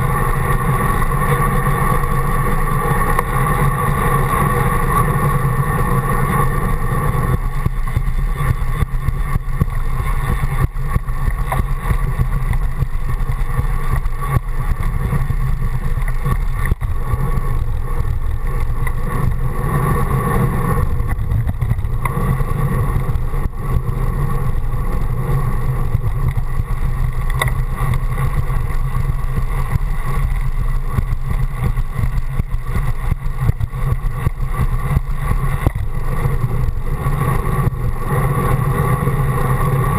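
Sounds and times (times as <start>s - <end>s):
bicycle road rumble: 0.0s - 39.9s
wind rush: 0.0s - 39.9s.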